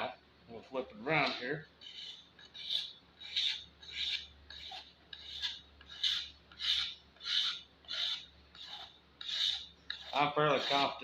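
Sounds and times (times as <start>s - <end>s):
knife scraping wood: 1.2s - 11.0s.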